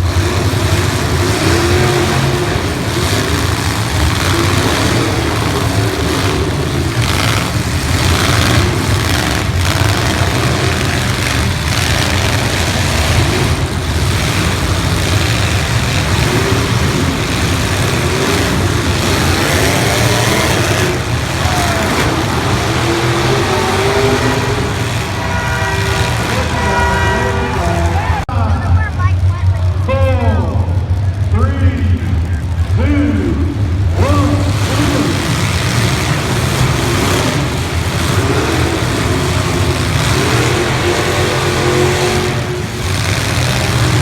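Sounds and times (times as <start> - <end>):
car engines revving: 0.0 - 44.0
sharp bangs: 0.1 - 44.0.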